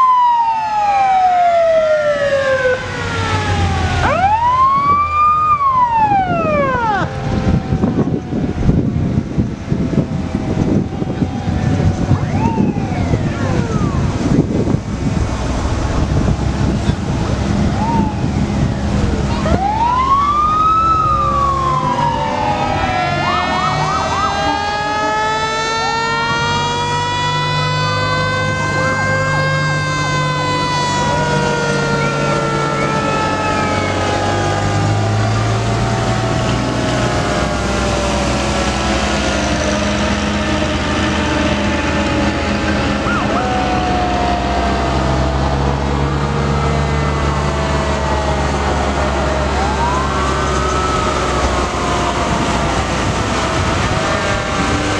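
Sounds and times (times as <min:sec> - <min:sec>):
fire engine sirens wailing: 0:00.0 - 0:54.9
truck engines running: 0:00.0 - 0:54.9.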